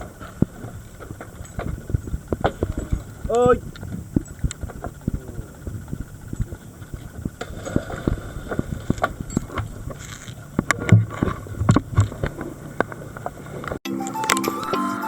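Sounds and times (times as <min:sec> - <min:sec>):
low rumble: 0:00.0 - 0:13.8
underwater clicks and crackles: 0:00.0 - 0:13.8.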